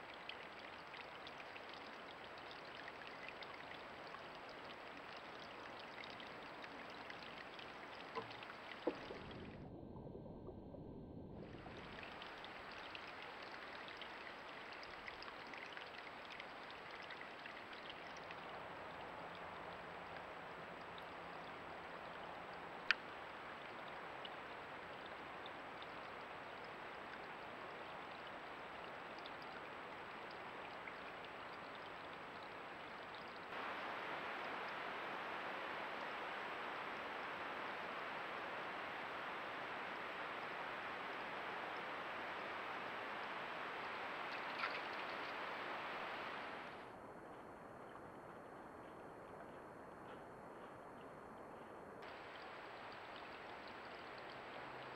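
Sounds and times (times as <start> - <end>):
creek water running: 0.0 - 9.7, 11.4 - 47.0, 52.0 - 54.9.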